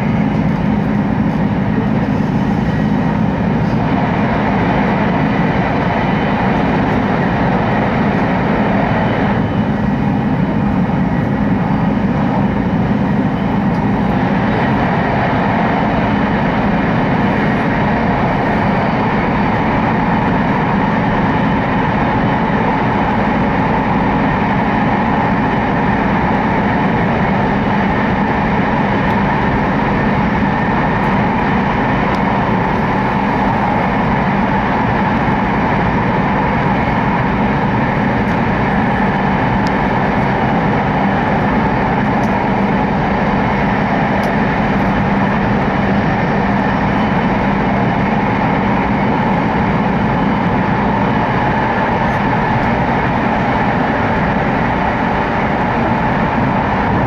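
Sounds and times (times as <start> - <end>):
air rushing past train: 0.0 - 57.0
train wheels rumbling on rail: 0.0 - 57.0.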